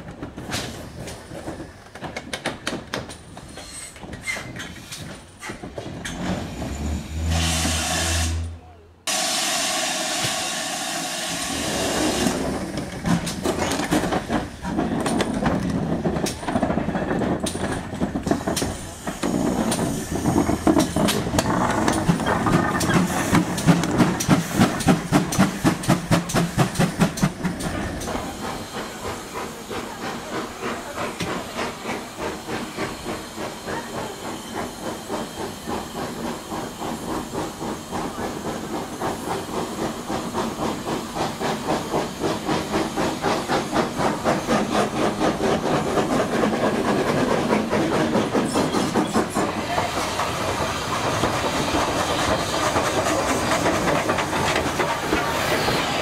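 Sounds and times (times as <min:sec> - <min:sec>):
steam locomotive chuffing: 0:00.0 - 0:56.0
steam hissing: 0:03.4 - 0:56.0.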